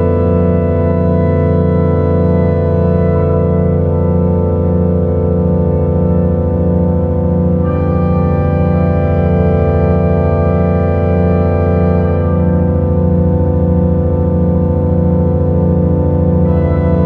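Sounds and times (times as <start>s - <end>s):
low pulsing tone: 0.0s - 17.0s
organ-like drone chord: 0.0s - 17.0s.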